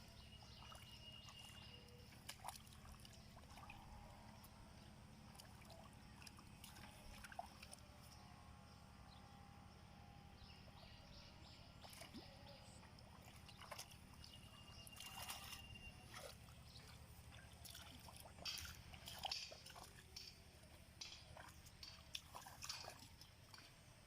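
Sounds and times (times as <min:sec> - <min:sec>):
steady low hum: 0:00.0 - 0:24.0
shallow water sloshing and splashing: 0:00.1 - 0:08.2, 0:11.8 - 0:24.0.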